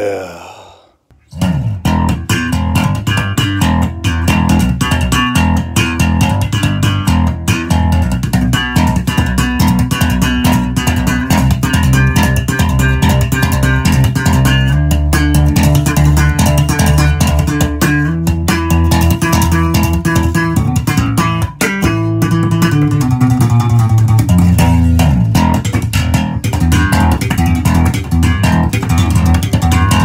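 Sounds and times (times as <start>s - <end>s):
electric bass guitar plucked notes: 1.3s - 30.0s.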